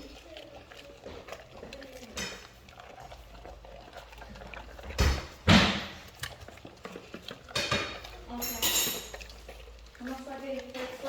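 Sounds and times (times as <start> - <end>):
dog chewing wetly: 0.0 - 11.0.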